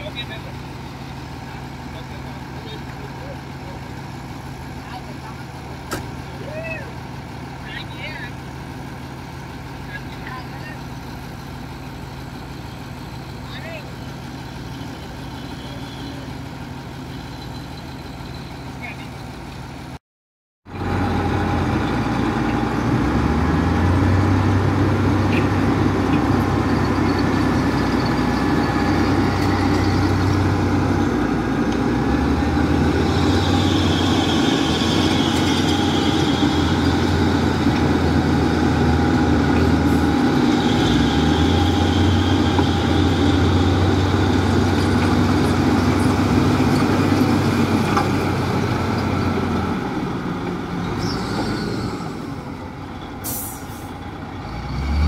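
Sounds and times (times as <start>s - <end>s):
heavy diesel machinery engine drone: 0.0s - 20.0s, 20.7s - 55.0s.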